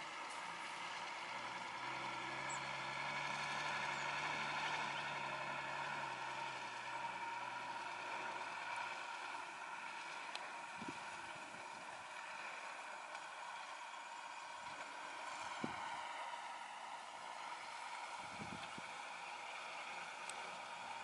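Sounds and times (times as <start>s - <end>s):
distant truck engine humming: 0.0s - 21.0s.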